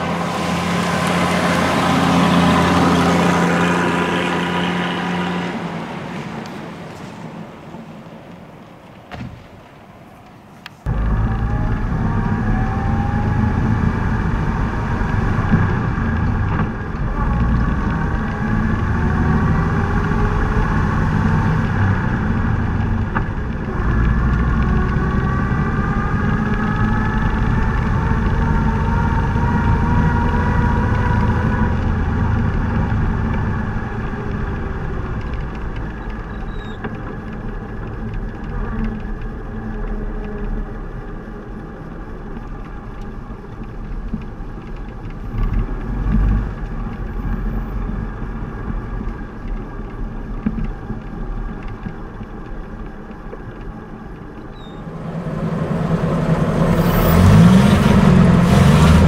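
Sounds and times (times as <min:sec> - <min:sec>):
road and wind noise: 0:00.0 - 0:59.0
car engine running: 0:10.8 - 0:59.0.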